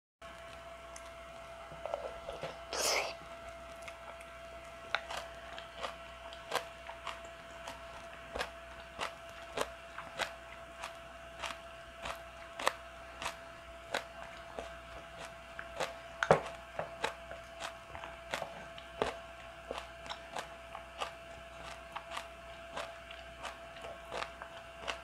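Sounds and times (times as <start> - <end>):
faint steady hum: 0.2 - 25.0
chewing with wet mouth clicks: 0.3 - 25.0.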